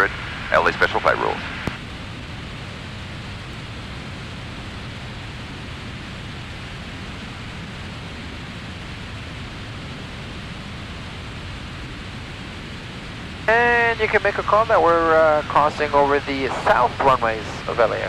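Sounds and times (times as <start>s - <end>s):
small plane cruising hiss: 0.0s - 18.0s.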